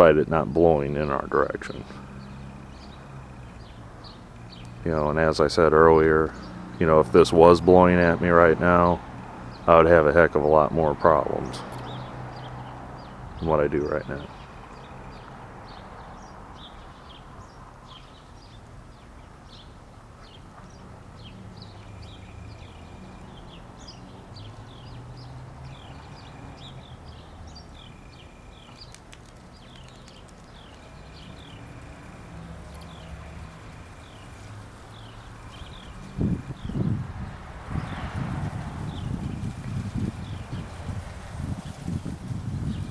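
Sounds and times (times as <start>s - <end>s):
low outdoor rumble: 0.0s - 42.9s
small birds chirping: 0.0s - 42.9s.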